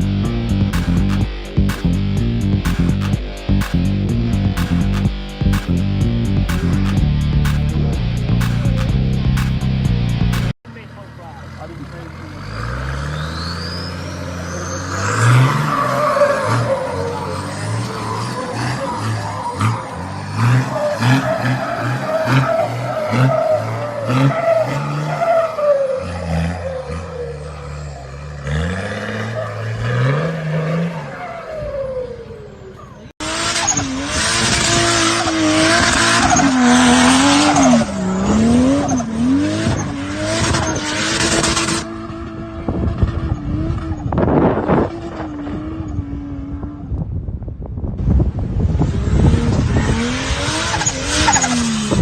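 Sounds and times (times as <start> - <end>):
truck engines revving: 0.0 - 52.0.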